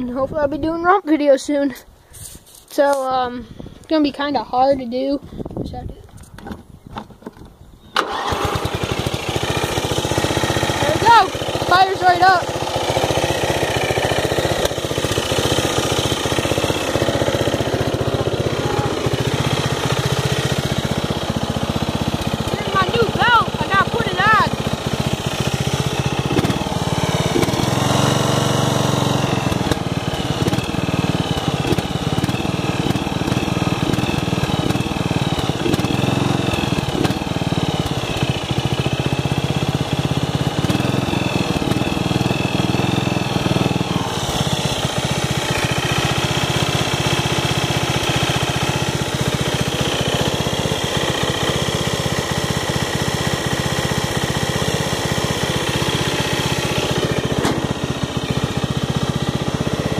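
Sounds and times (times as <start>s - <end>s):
riding mower engine running: 0.0s - 5.4s, 6.0s - 59.9s.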